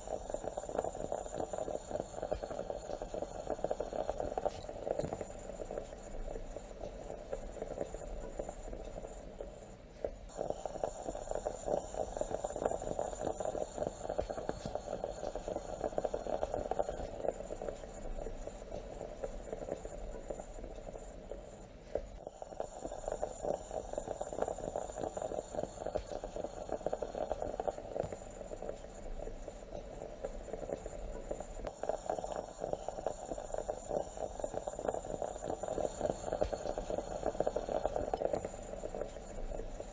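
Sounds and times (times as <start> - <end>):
moka pot gurgling and sputtering: 0.0 - 39.9.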